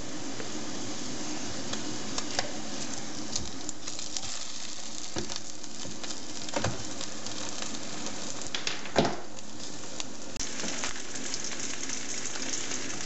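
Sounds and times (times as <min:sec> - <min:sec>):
meat sizzling in a metal tin: 0:00.0 - 0:13.0.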